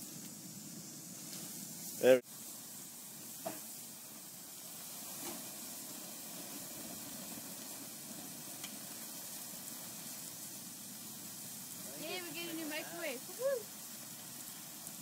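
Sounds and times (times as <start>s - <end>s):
hose water hissing and sizzling: 0.0s - 15.0s.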